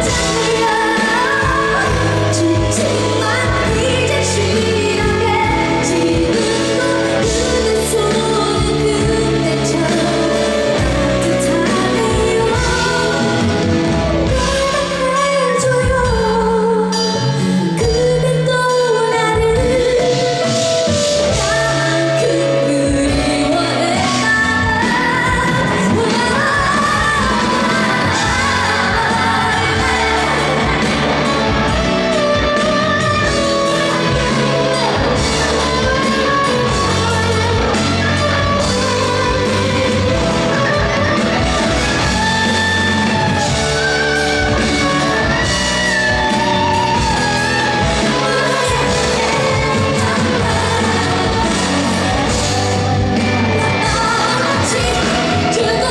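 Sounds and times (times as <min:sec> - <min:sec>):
live band playing pop: 0:00.0 - 0:55.9
woman singing: 0:00.0 - 0:55.9.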